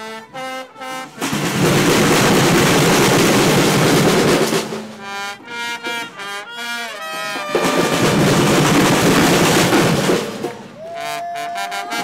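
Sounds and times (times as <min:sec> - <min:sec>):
horn playing stepped notes: 0:00.0 - 0:02.8, 0:04.6 - 0:09.8, 0:10.4 - 0:12.0
loud carnival drumming: 0:00.9 - 0:12.0.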